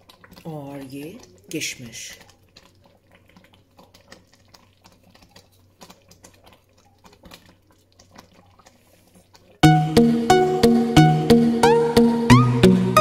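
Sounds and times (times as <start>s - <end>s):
pudding popping in pot: 0.0s - 12.4s.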